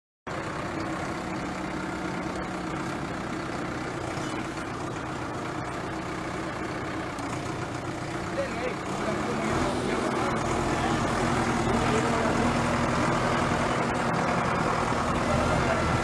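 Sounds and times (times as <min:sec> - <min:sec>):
tractor diesel engine running: 0:00.3 - 0:16.0.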